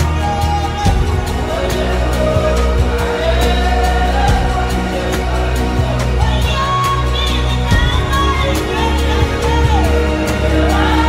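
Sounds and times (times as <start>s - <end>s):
deep sustained bass: 0.0s - 11.0s
music with steady beat: 0.0s - 11.0s.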